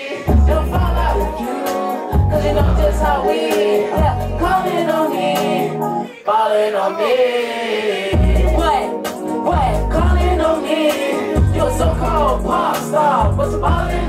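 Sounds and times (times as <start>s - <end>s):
hip-hop beat with deep bass: 0.0s - 6.2s, 8.1s - 14.0s
person singing: 0.0s - 7.5s, 8.1s - 14.0s.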